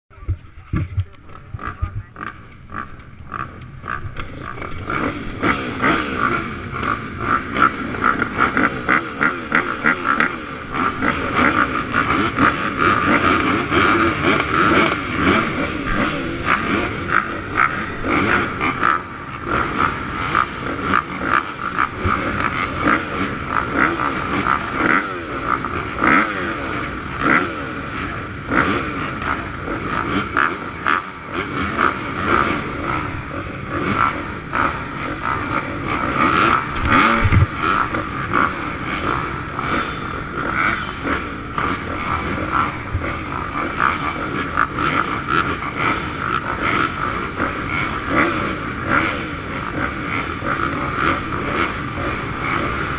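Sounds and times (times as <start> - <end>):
motorbike engines revving: 0.1 - 52.9.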